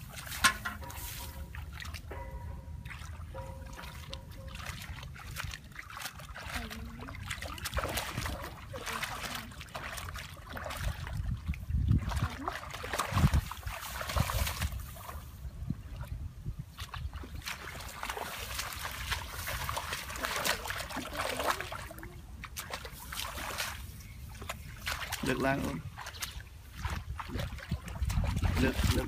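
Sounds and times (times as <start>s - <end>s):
water trickling: 0.0s - 29.0s
hands splashing in water: 2.9s - 15.2s, 16.8s - 29.0s.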